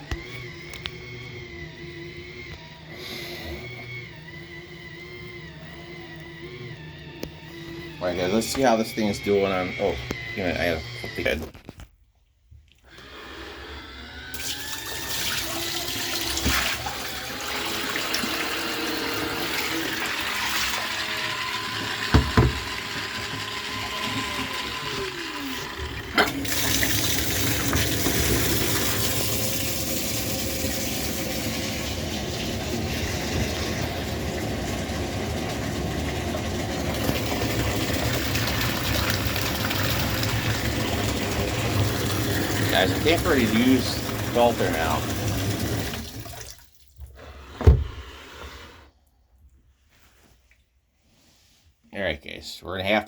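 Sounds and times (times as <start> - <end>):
water churning in washing machine: 0.0 - 2.9, 3.6 - 11.4, 13.0 - 47.8.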